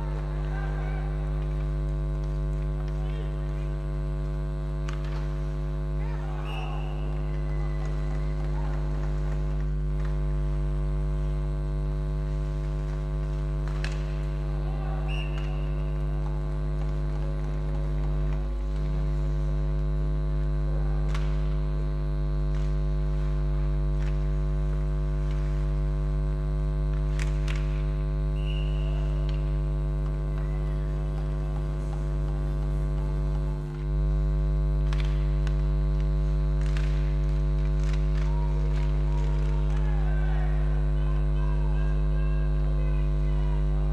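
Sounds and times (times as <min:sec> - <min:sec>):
electrical hum: 0:00.0 - 0:43.9.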